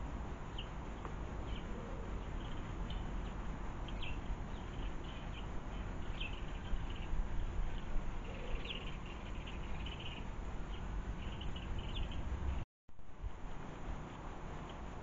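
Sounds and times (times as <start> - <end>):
small birds chirping: 0.0 - 12.6
low outdoor rumble: 0.0 - 15.0.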